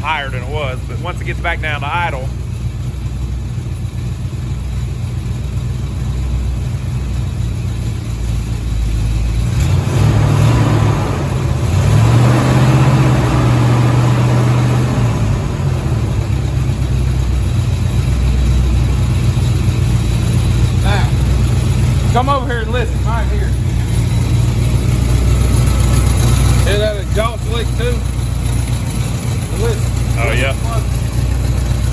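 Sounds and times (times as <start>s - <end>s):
engine idling with rattle: 0.0s - 31.9s.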